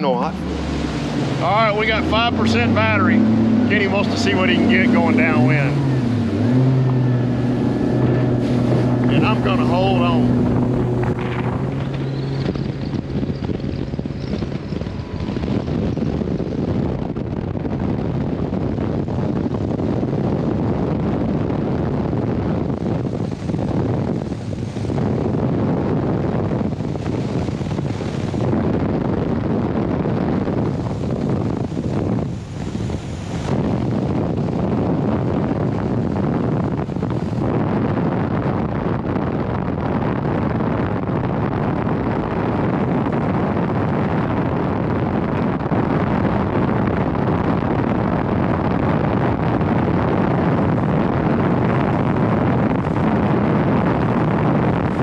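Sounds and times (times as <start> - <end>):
outboard motor at full throttle: 0.0 - 55.0
wind rushing over microphone: 0.0 - 55.0.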